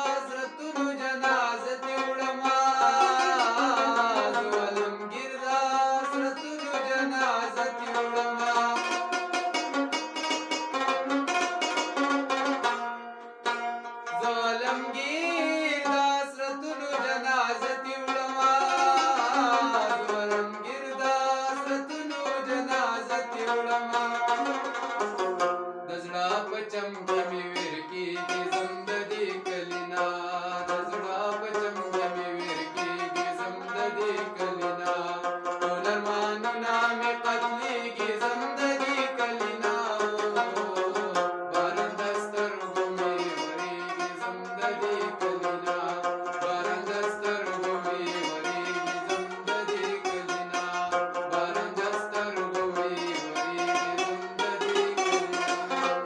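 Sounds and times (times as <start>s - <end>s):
man singing: 0.0s - 10.2s, 14.2s - 24.8s, 25.9s - 56.0s
plucked lute: 0.0s - 56.0s.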